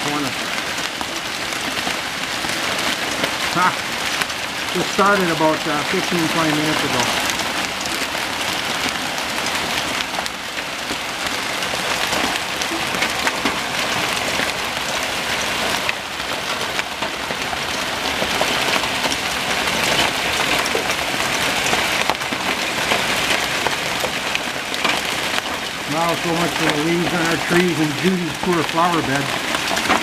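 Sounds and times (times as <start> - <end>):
hailstones striking: 0.0 - 30.0
heavy rain: 0.0 - 30.0.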